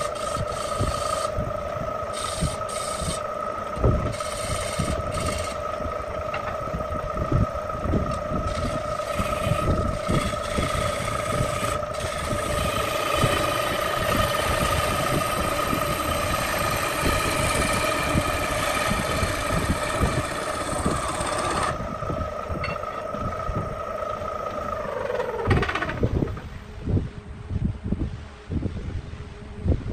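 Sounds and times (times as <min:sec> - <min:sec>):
wood lathe humming: 0:00.0 - 0:26.5
gouge scraping spinning wood: 0:00.0 - 0:26.6.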